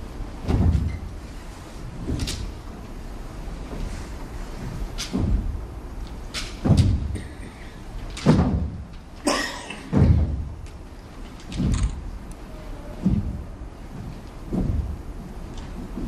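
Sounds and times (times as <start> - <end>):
heavy stamping thumps: 0.3 - 1.2, 1.9 - 9.2, 9.8 - 12.3, 13.0 - 16.0.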